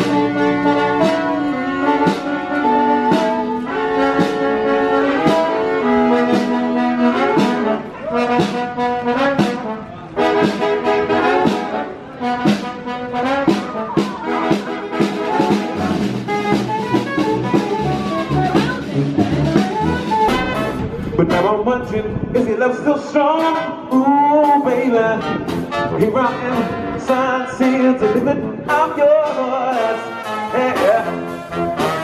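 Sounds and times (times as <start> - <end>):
brass band playing: 0.0 - 32.0.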